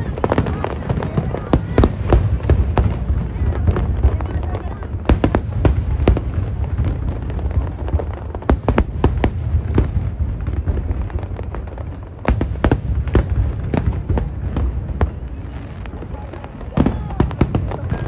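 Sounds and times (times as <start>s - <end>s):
fireworks bangs and cracks: 0.0s - 18.0s.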